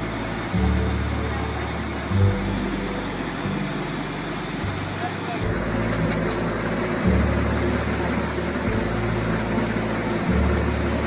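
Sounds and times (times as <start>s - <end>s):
seed extraction machine running: 0.0s - 11.0s.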